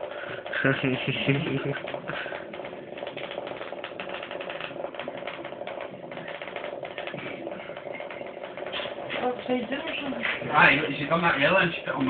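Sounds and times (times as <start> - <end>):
toy motor clicking rattle: 0.0 - 12.0.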